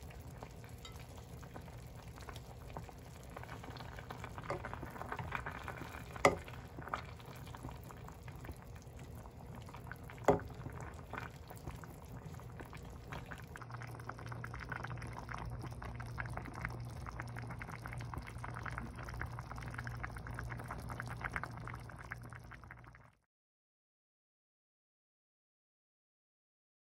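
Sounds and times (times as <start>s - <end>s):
stew bubbling in pot: 0.0s - 23.2s.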